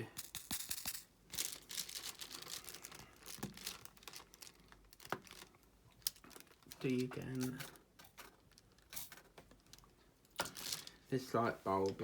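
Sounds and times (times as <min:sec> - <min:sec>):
plastic crinkling and rustling: 0:01.3 - 0:12.0.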